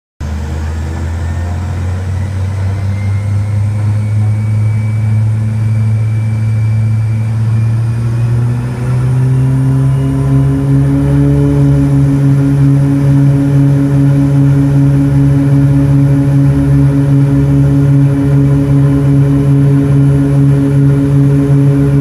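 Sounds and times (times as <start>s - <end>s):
turboprop engines droning: 0.2s - 22.0s.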